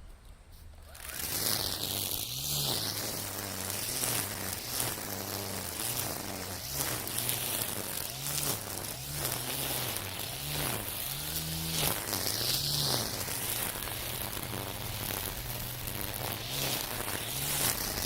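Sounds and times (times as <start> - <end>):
trimmer line rasping through stems: 0.6 - 18.0
string trimmer motor: 0.8 - 18.0.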